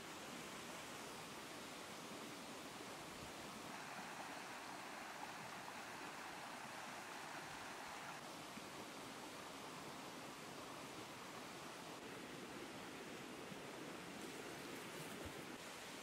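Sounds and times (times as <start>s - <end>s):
faint hiss: 0.0s - 16.0s
stream rushing over rocks: 0.0s - 16.0s.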